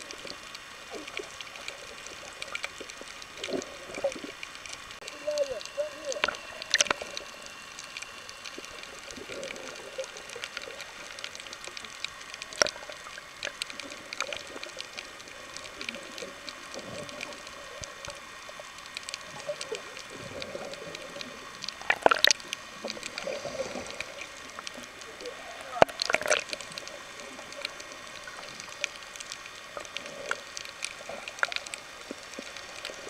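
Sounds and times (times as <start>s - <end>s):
faint water noise: 0.0s - 33.0s
rush of bubbles underwater: 0.0s - 33.0s
underwater crackle of clicks: 0.0s - 33.0s.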